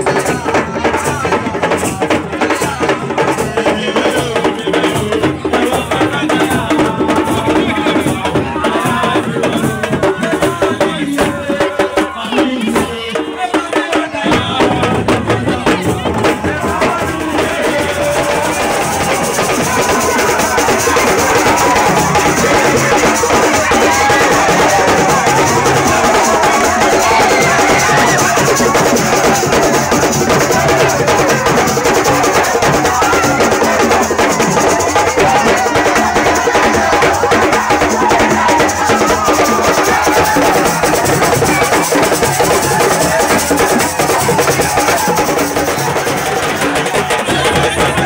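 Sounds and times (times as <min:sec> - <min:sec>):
percussion music with drums and rattles: 0:00.0 - 0:48.0
voices singing: 0:00.0 - 0:48.0.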